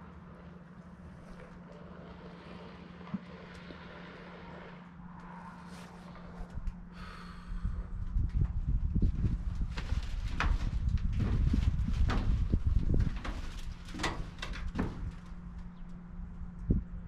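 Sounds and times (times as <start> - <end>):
faint outdoor ambience: 0.0 - 17.0
steady low hum: 0.0 - 17.0.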